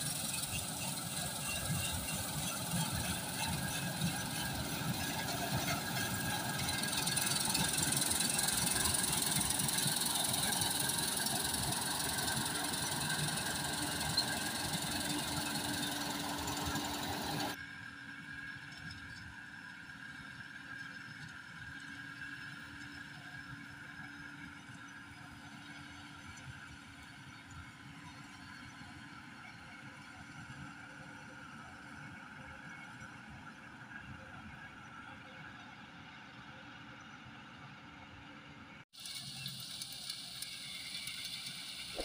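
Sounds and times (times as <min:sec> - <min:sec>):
combine harvester running: 0:00.0 - 0:27.0, 0:35.2 - 0:42.0.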